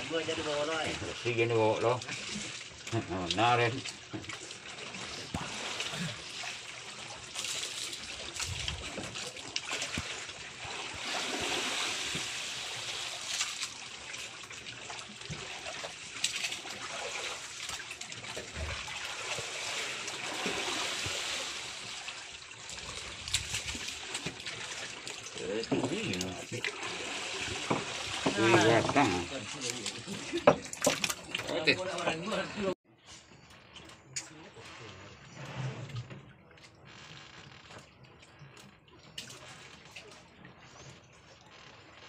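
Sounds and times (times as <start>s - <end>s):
sea water lapping against boat: 0.0s - 32.8s, 33.4s - 42.0s.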